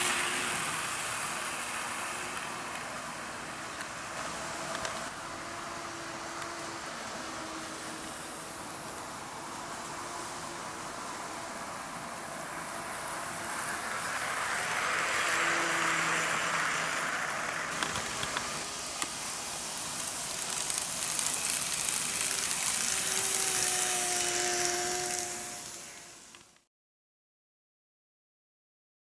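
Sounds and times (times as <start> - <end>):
model train wheels hissing on rail: 0.0 - 26.6
wheels clicking over rail joints: 0.0 - 26.6
faint motor whine: 0.0 - 26.7.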